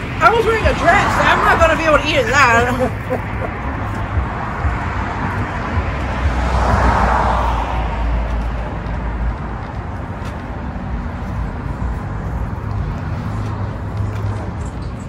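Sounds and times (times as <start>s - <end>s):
steady traffic: 0.0s - 15.0s
vehicle passing: 0.0s - 15.0s.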